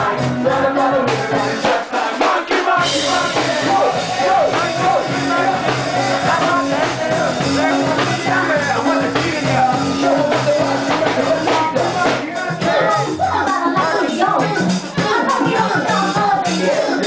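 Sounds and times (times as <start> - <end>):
man singing into microphone: 0.0 - 17.0
ska punk band playing live: 0.0 - 17.0.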